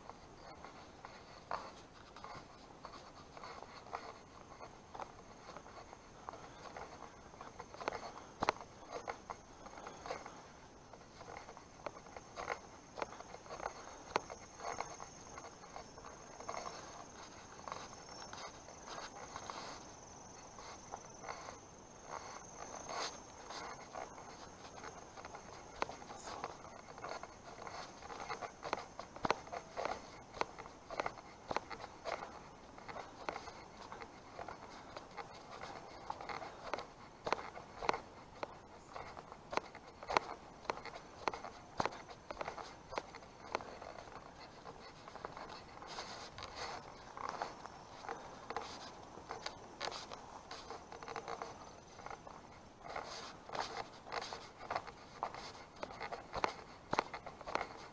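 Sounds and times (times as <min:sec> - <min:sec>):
faint high whine: 0:00.0 - 0:57.9
footsteps scuffing on pavement: 0:00.0 - 0:57.9
high-pitched insect trill: 0:00.2 - 0:55.3.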